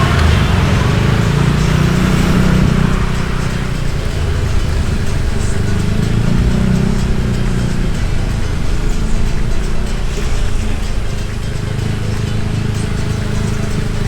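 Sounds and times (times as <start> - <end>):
motorbike engine running: 0.0 - 14.0
road and wind noise: 0.0 - 14.0.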